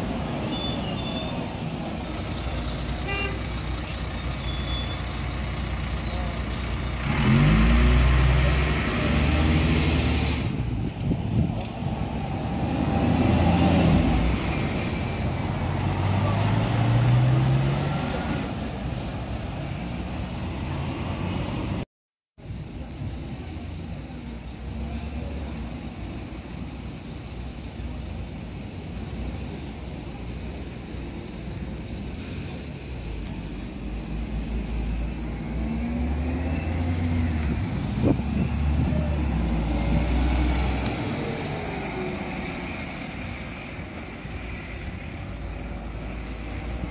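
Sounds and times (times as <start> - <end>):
bus engine accelerating: 0.0 - 21.8, 22.6 - 46.9
traffic rumble: 0.0 - 46.9.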